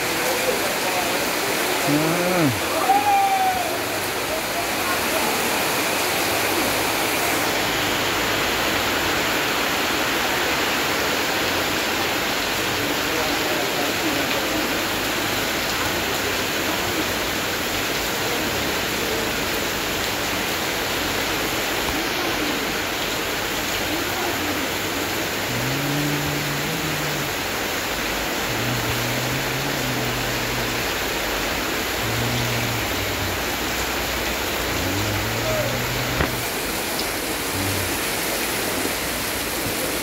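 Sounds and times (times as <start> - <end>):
heavy rain on metal roof: 0.0 - 40.0.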